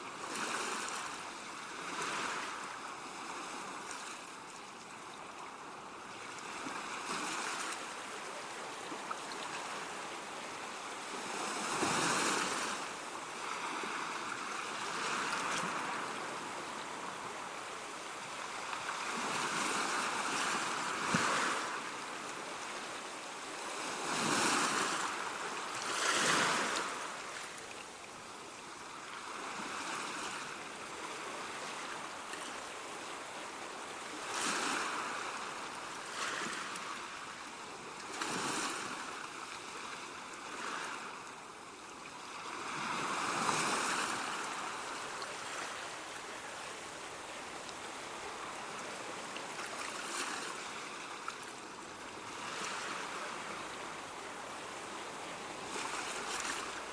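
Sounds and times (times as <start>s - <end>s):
ocean waves breaking: 6.2s - 41.3s, 42.1s - 56.9s.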